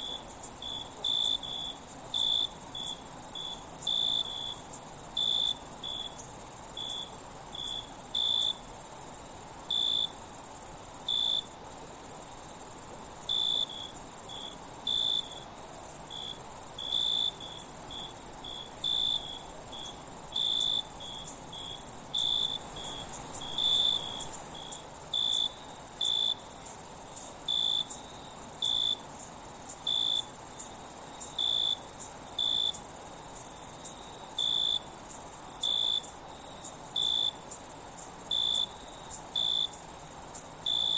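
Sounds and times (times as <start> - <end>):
cricket chirps: 0.0 - 40.9
high-pitched cricket trill: 0.0 - 40.9.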